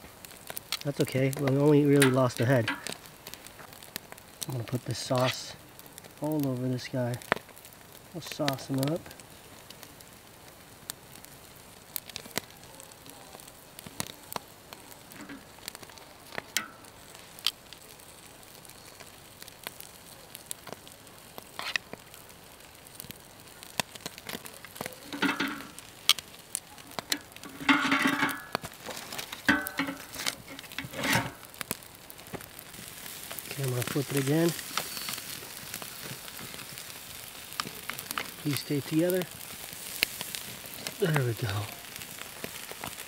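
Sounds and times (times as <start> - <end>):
campfire crackling and popping: 0.0 - 43.0
fish sizzling on grill: 0.0 - 43.0.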